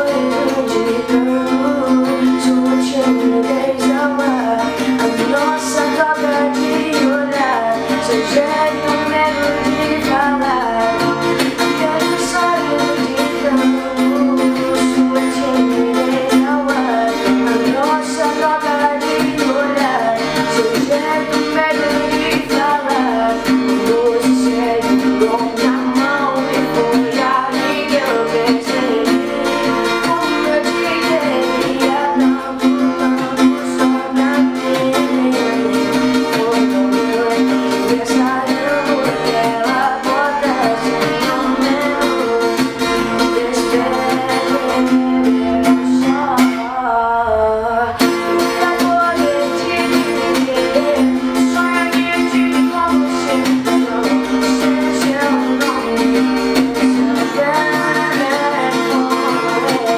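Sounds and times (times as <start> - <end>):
acoustic guitar strumming: 0.0 - 59.9
woman singing: 0.0 - 59.9.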